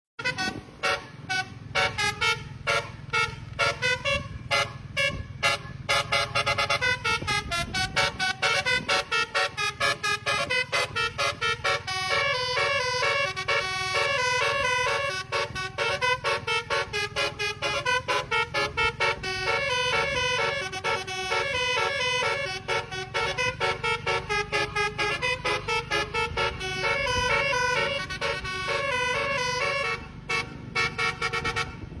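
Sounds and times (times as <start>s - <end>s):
low bus rumble: 0.2s - 32.0s
multi-tone musical bus horn: 0.2s - 32.0s.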